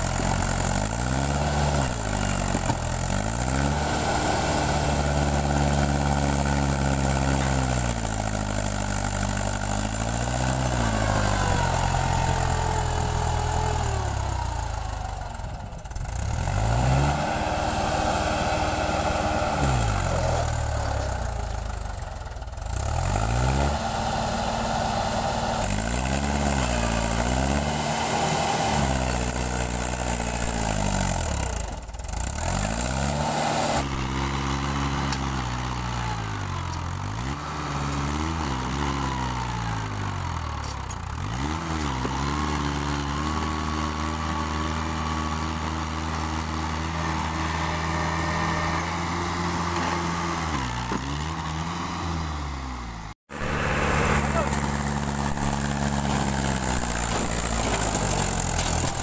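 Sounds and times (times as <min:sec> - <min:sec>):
diesel tractor engine revving: 0:00.0 - 0:59.0.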